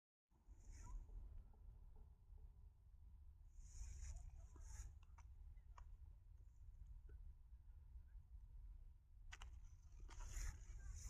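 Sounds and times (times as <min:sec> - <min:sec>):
faint low rumble: 0:00.4 - 0:11.0.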